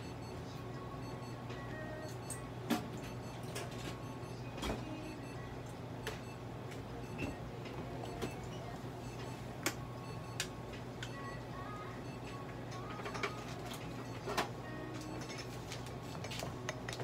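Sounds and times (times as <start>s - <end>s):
electrical equipment hum: 0.0s - 17.0s.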